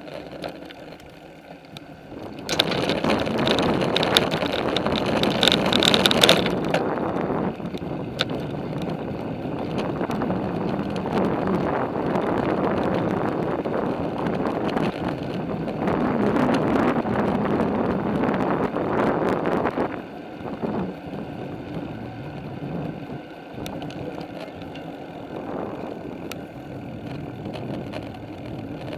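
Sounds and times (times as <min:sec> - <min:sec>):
bicycle tyre noise: 0:00.0 - 0:28.9
bike rattles and clicks: 0:00.0 - 0:28.9
wind on microphone: 0:02.0 - 0:28.9.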